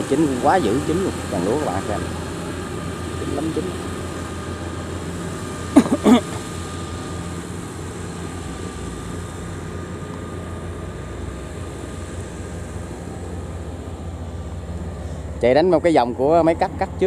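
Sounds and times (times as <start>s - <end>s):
farm machinery engine drone: 0.0s - 17.0s.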